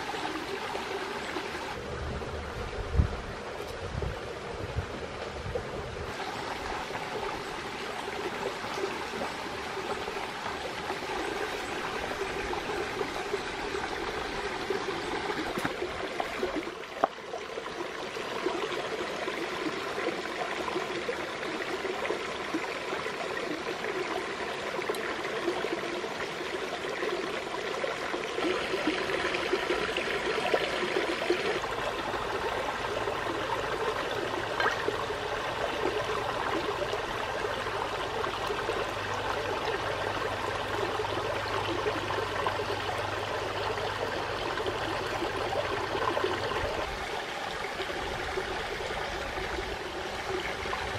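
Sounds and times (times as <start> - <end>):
stream trickling over rocks: 0.0 - 50.9.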